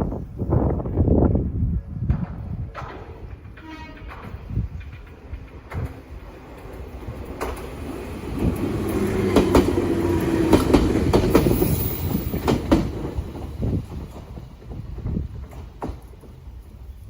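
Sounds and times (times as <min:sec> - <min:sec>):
wheels clicking over rail joints: 0:02.2 - 0:17.0
electric train passing: 0:02.8 - 0:17.0.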